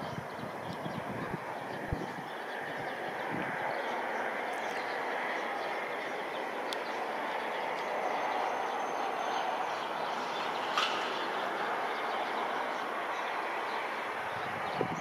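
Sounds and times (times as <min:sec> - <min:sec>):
distant jet engine roar: 0:00.0 - 0:15.0.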